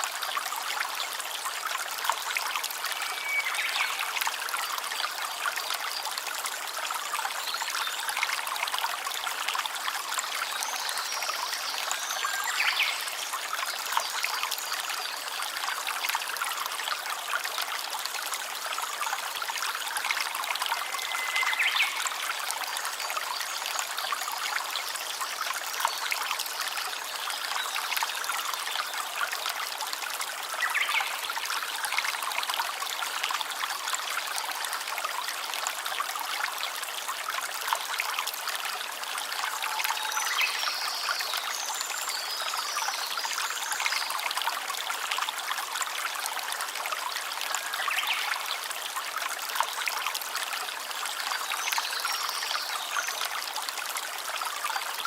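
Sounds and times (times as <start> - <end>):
stream trickling: 0.0 - 55.0.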